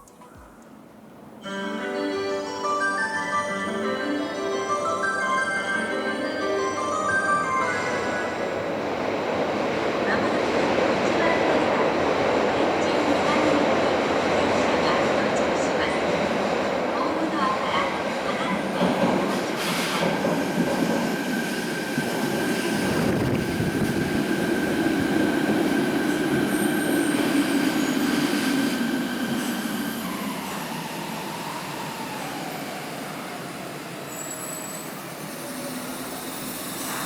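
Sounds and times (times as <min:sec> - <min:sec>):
subway train rail noise: 0:00.0 - 0:37.0.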